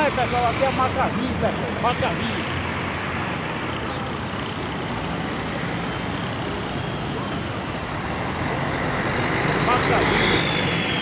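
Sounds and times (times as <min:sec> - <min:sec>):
road traffic driving past: 0:00.0 - 0:11.0.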